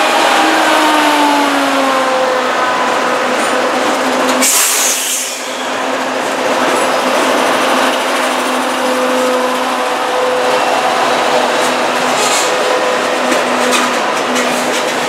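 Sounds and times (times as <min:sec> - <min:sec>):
locomotive engines droning: 0:00.0 - 0:15.0.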